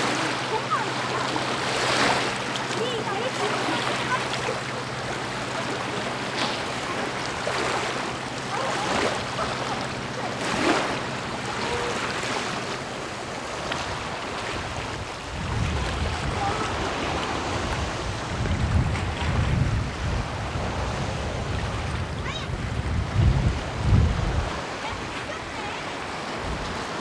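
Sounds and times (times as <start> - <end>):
low engine hum: 0.0 - 24.6
sea waves washing onto beach: 0.0 - 27.0
wind buffeting microphone: 0.0 - 27.0.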